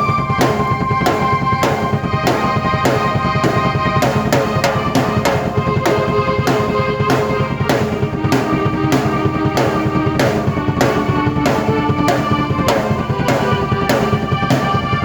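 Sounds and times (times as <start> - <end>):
drum kit playing: 0.0 - 15.0
keyboard notes: 0.0 - 15.0.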